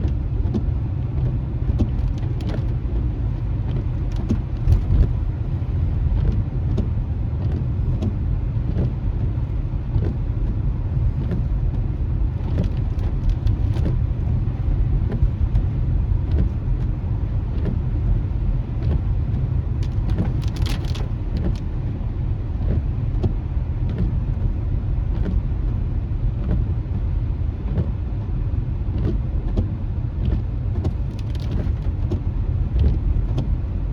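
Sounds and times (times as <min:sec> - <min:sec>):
road and tyre rumble in car: 0:00.0 - 0:33.9.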